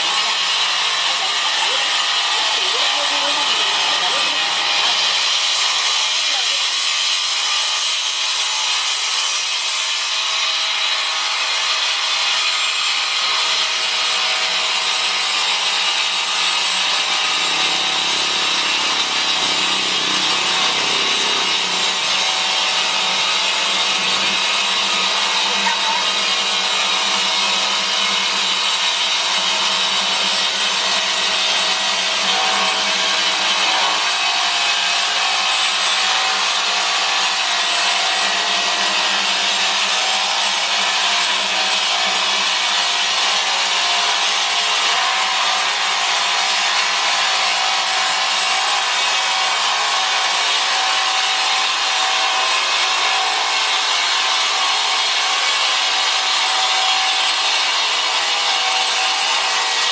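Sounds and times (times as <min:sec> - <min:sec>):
sawing machine cutting wood: 0:00.0 - 0:59.9.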